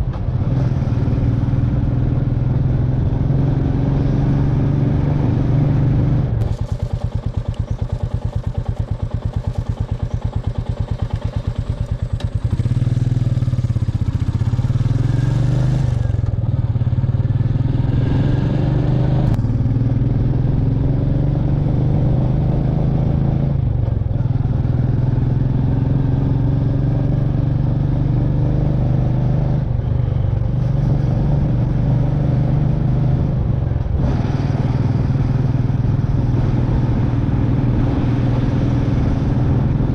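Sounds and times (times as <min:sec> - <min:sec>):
motorcycle engine thumping and revving: 0:00.0 - 0:39.9.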